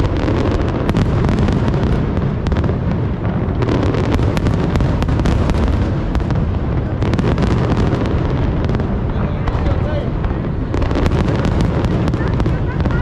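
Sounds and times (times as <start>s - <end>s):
fireworks booming: 0.0s - 13.0s
fireworks cracks and pops: 0.0s - 13.0s.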